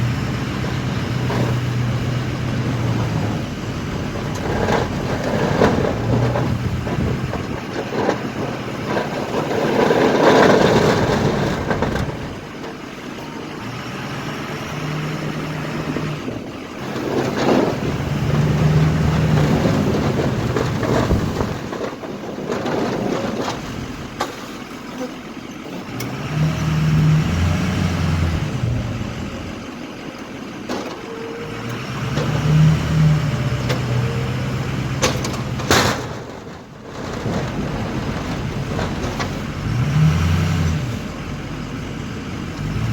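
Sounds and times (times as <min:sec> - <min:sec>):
pickup truck engine working: 0:00.0 - 0:42.9.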